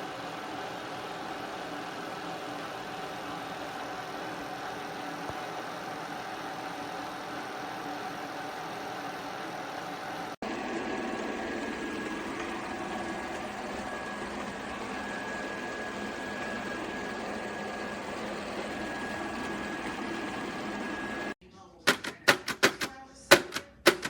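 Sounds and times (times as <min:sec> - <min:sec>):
robot vacuum motor running: 0:01.0 - 0:21.4.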